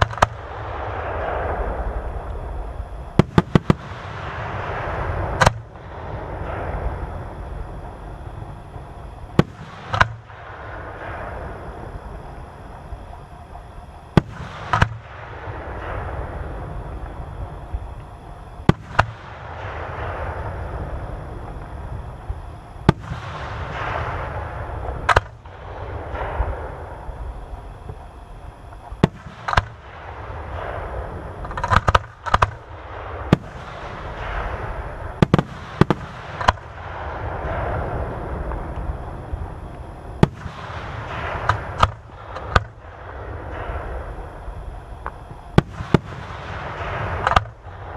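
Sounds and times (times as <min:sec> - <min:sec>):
fireworks bursting with bangs: 0:00.0 - 0:47.9
rumbling noise: 0:00.0 - 0:47.9.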